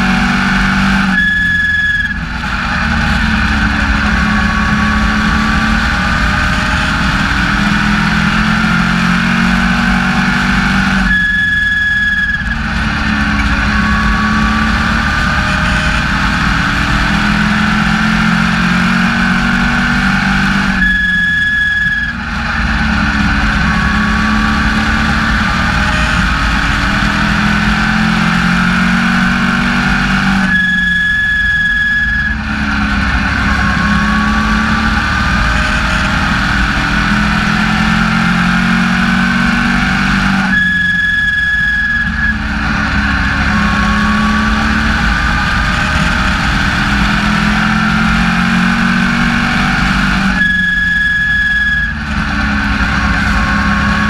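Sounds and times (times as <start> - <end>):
high whine: 0.0 - 54.0
race car engine running hard: 0.0 - 54.0.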